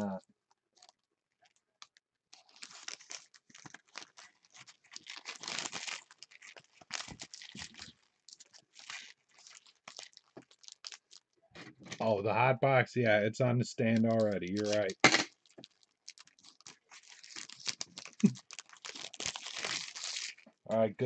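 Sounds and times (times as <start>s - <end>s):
plastic wrap crinkling and tearing: 0.8s - 12.1s, 13.8s - 20.6s.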